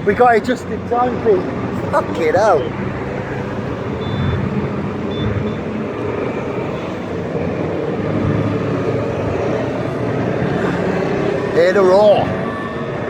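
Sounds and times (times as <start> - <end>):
motorcycle engines roaring: 0.0 - 13.0.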